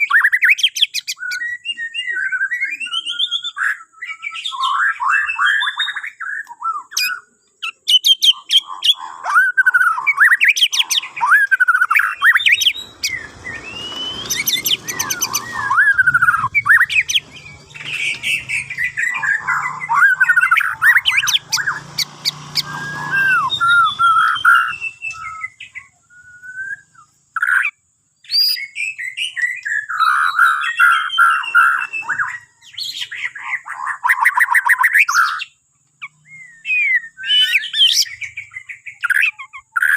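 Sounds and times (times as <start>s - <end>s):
songbird singing fluty whistles: 0.0s - 39.9s.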